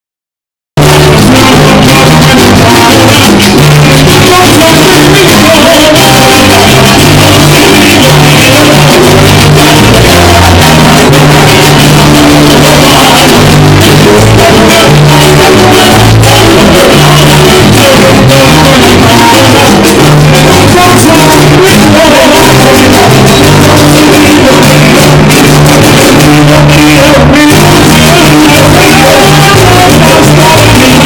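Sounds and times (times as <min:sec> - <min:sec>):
bass line: 0:00.7 - 0:31.0
live band playing latin music: 0:00.8 - 0:31.0
percussion: 0:00.8 - 0:31.0.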